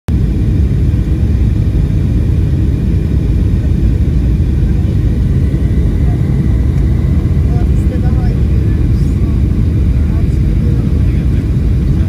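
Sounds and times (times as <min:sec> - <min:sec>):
airliner cabin engine rumble: 0:00.1 - 0:12.0.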